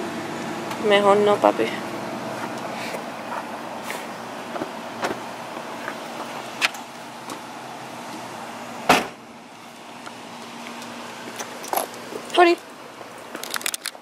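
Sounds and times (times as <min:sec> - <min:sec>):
outdoor hum: 0:00.0 - 0:14.0.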